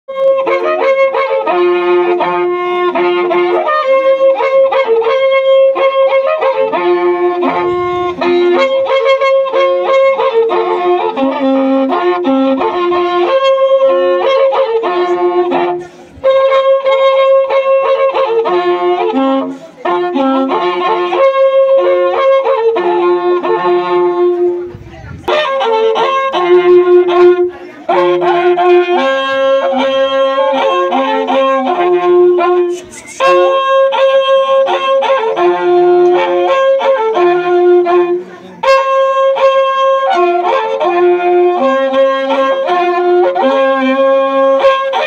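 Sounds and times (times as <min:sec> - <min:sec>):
bull-horn trumpets buzzy melody: 0:00.1 - 0:45.0.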